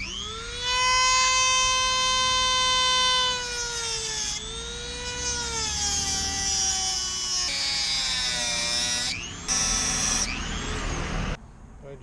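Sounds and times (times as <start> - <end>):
rotary cutting tool whining: 0.0 - 11.4.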